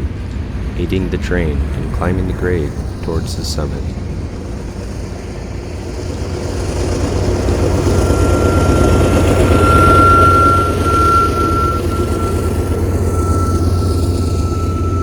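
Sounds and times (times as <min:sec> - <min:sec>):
diesel locomotive engine rumble: 0:00.0 - 0:15.0
steady high-pitched squeal: 0:00.0 - 0:15.0.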